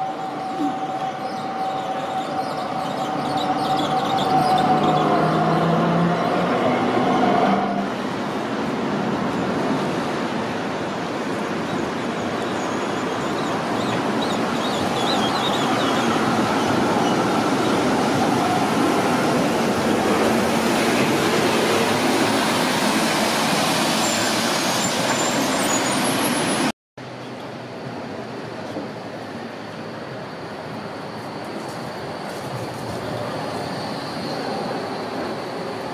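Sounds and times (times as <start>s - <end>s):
street traffic: 0.0s - 35.9s
tram rumbling past on rails: 0.0s - 35.9s.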